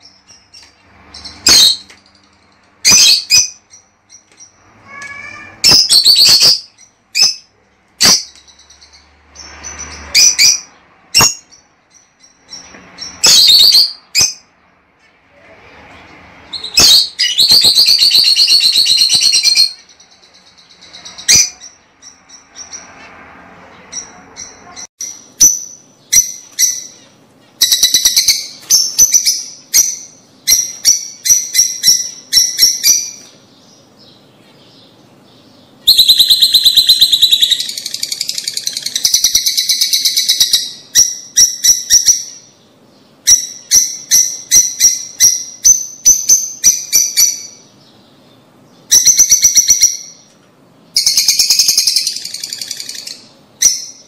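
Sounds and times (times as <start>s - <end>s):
lovebirds calling shrilly: 0.0s - 14.7s, 15.6s - 54.0s.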